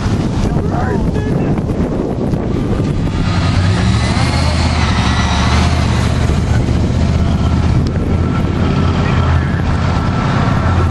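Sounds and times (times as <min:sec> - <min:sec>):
vehicle engine and road noise: 0:00.0 - 0:10.9.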